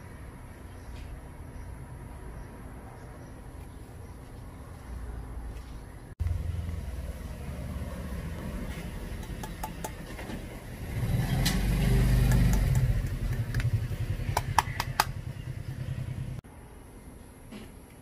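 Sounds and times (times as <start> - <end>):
traffic rumble: 0.0 - 18.0
vehicle passing: 1.7 - 16.4.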